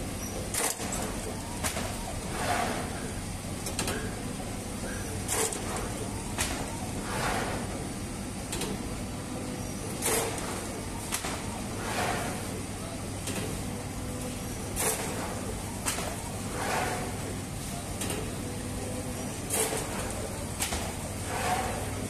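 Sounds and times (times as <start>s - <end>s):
dough machine humming: 0.0s - 22.0s.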